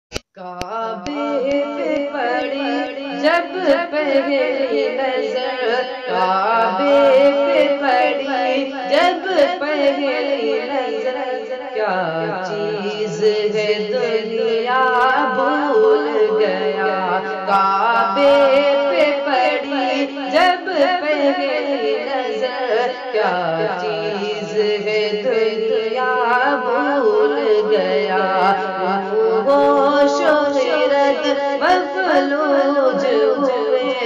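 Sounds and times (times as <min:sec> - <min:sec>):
boy singing: 0:00.3 - 0:34.0.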